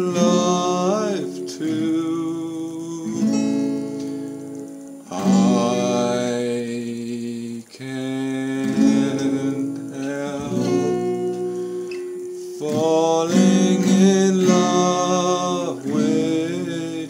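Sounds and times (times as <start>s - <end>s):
man singing: 0.0s - 4.0s, 5.1s - 11.6s, 12.4s - 17.0s
acoustic guitar strummed and plucked: 0.0s - 17.0s.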